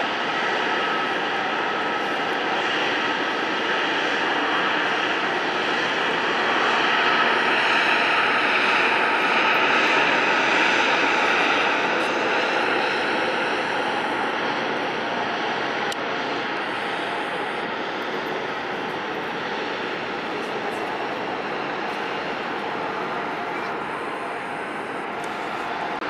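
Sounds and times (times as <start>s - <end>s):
jet airliner engines rushing: 0.0s - 26.0s.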